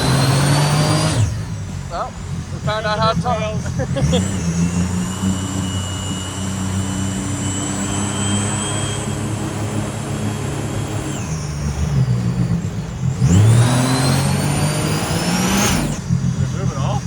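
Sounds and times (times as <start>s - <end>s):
boat engine running hard: 0.0s - 17.0s.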